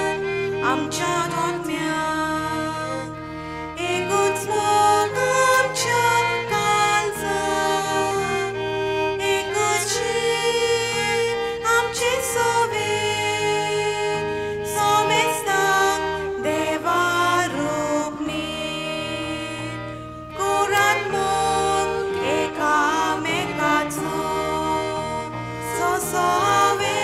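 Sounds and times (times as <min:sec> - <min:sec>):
instrumental accompaniment: 0:00.0 - 0:27.0
voices singing a hymn: 0:00.0 - 0:27.0.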